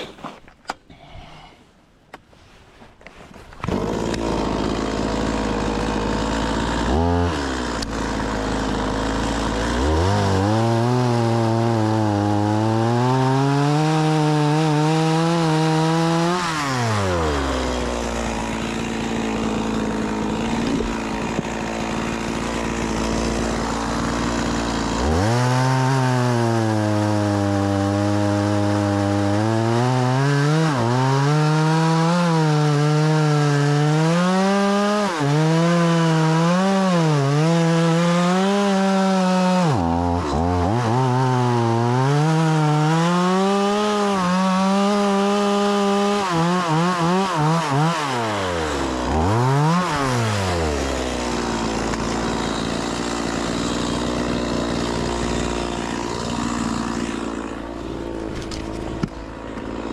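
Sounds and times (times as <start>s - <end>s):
chainsaw cutting log: 3.3s - 59.9s.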